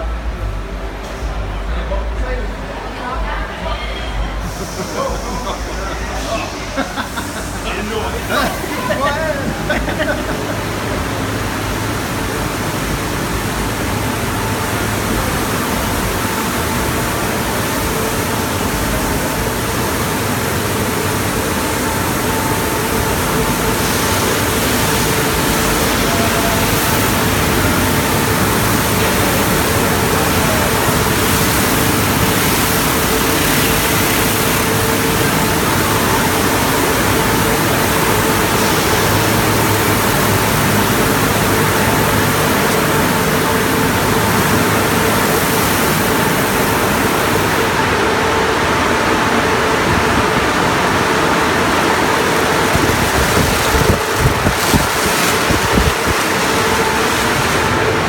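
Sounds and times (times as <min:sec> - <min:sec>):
faint machine hum: 0:00.0 - 0:58.0
water jets spraying cars: 0:00.0 - 0:58.0.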